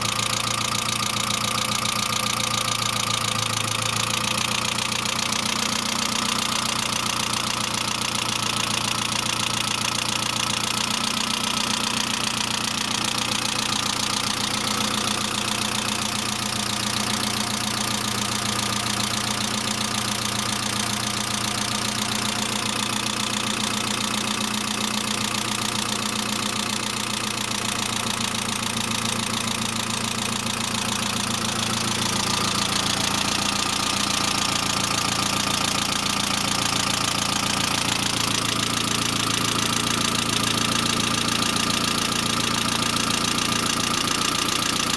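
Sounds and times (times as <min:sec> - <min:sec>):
car engine idling: 0:00.0 - 0:44.9
rapid valve lifter ticking: 0:00.0 - 0:44.9.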